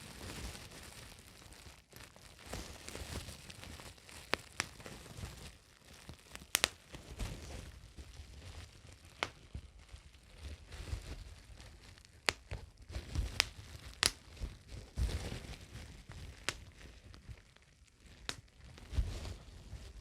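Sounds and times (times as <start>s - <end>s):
bubble wrap crinkling: 0.0s - 20.0s
bubble wrap pops: 0.0s - 20.0s.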